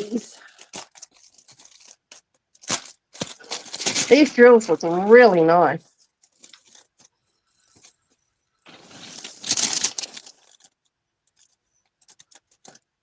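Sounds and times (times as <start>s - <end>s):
plastic bags rustling and rattling: 0.0s - 13.0s.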